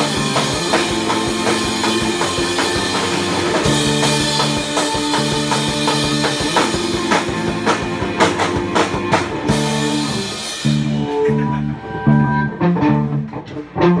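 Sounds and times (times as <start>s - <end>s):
drum kit with cymbals: 0.0s - 11.7s
electric guitars playing: 0.0s - 14.0s.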